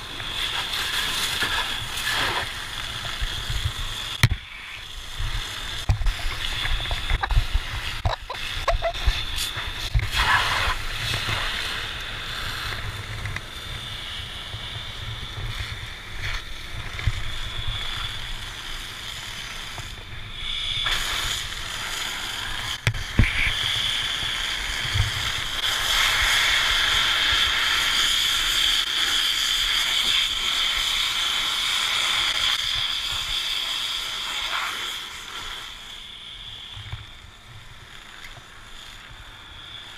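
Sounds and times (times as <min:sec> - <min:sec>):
hose spraying water: 0:00.0 - 0:39.9.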